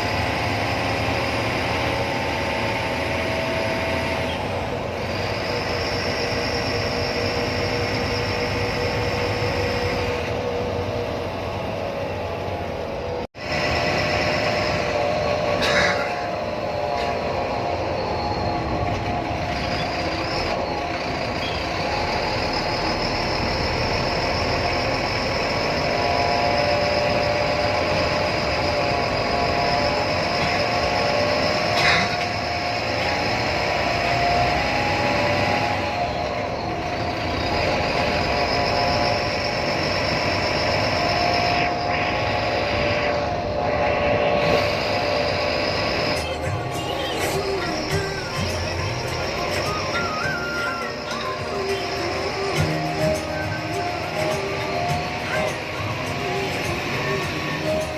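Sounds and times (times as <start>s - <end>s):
bus engine and road noise: 0.0s - 57.9s
wavering whine: 0.0s - 57.9s.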